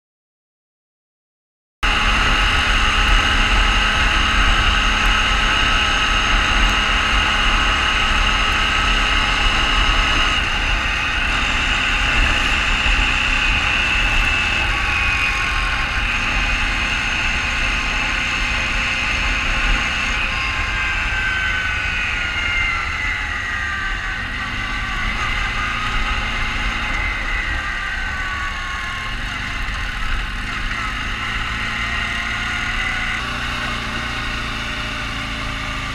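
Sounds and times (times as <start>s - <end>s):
quad bike engine whining: 1.8s - 35.9s.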